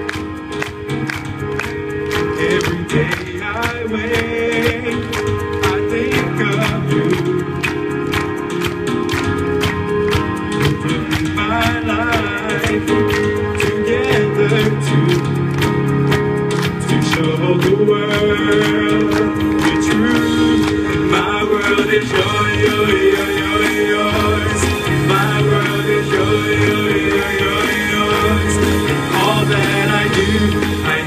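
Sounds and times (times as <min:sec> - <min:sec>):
electronic keyboard love song: 0:00.0 - 0:31.0
man singing wordless runs: 0:02.2 - 0:07.9, 0:10.6 - 0:15.7, 0:16.6 - 0:31.0.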